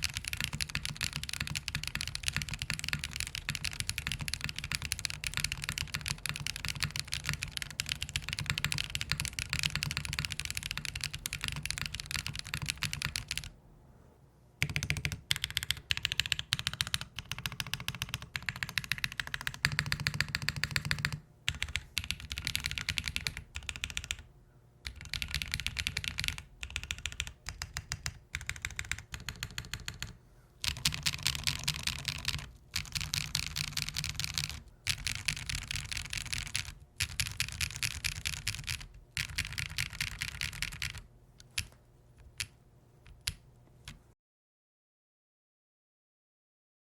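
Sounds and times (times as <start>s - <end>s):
mechanical keyboard typing: 0.0s - 13.5s, 14.6s - 44.0s.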